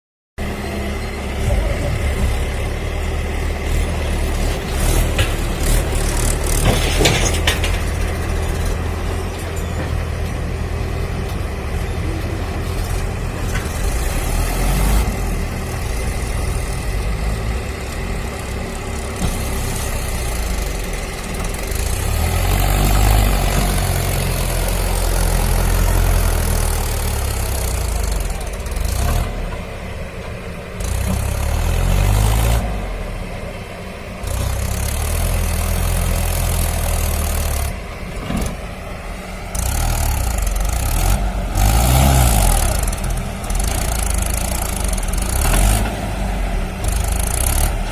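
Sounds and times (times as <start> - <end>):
heavy machinery diesel engine rumble: 0.4 - 47.9.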